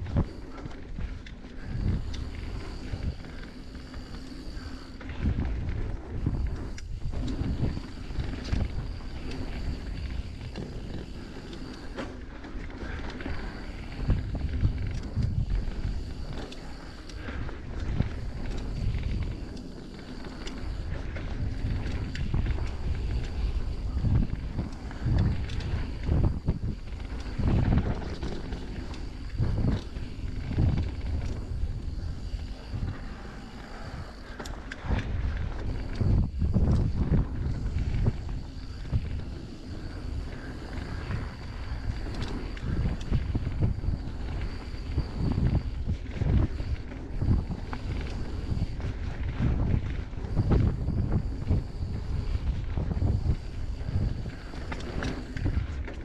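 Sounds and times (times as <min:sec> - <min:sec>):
bike clicks and rattles: 0:00.0 - 0:56.0
wind and ride noise rumble: 0:00.0 - 0:56.0.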